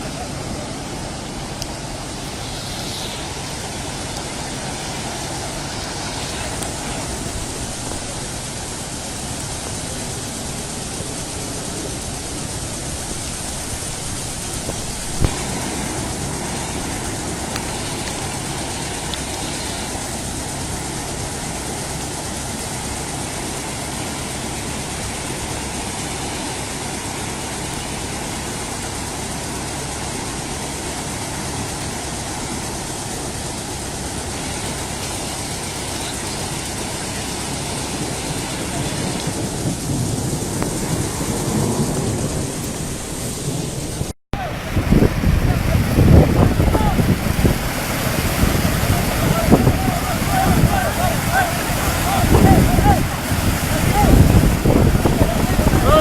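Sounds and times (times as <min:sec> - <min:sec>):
floodwater rushing: 0:00.0 - 0:56.0
truck engine running: 0:00.0 - 0:56.0.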